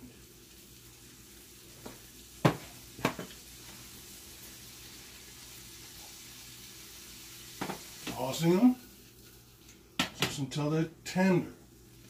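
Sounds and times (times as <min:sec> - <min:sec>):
shrimp sizzling in a frying pan: 0:00.0 - 0:12.0.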